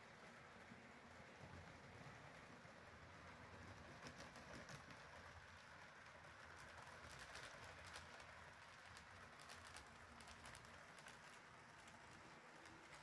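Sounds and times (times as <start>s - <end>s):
model train motor whirring: 1.3s - 13.0s.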